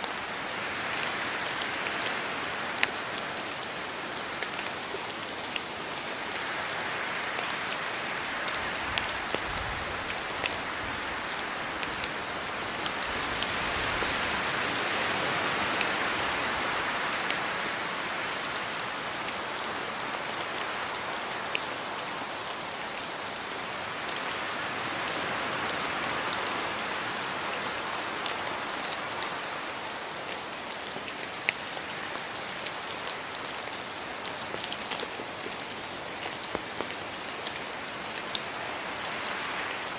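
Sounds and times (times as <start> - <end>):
raindrops hitting close by: 0.0 - 39.9
steady rain falling: 0.0 - 39.9.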